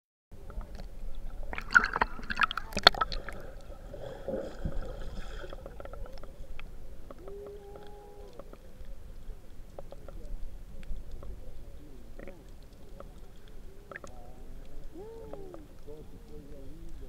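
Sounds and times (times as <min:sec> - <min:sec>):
water sloshing underwater: 0:00.4 - 0:17.0.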